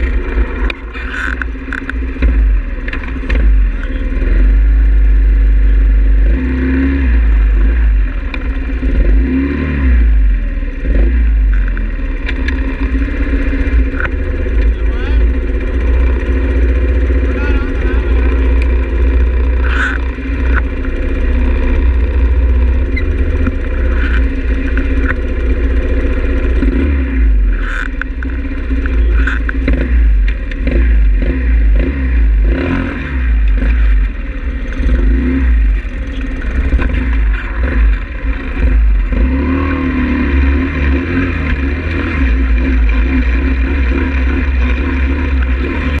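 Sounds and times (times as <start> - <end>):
heavy low rumble: 0.0 - 46.0
small motorbike engine revving: 0.0 - 46.0.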